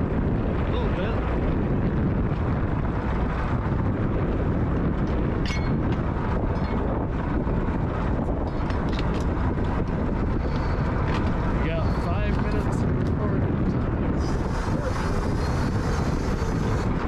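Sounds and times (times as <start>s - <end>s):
boat engine rumble: 0.0s - 17.0s
wind buffeting microphone: 0.0s - 17.0s.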